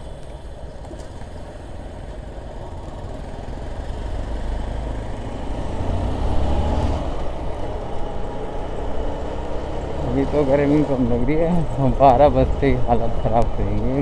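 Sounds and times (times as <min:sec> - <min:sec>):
road noise: 0:00.0 - 0:14.0
motorcycle passing: 0:01.1 - 0:12.8.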